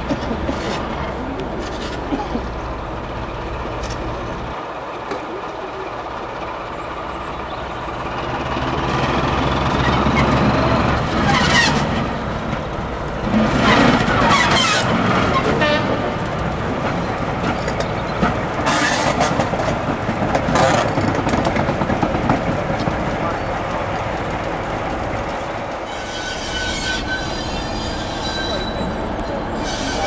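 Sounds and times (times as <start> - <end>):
diesel locomotive engine passing: 0.0 - 30.0.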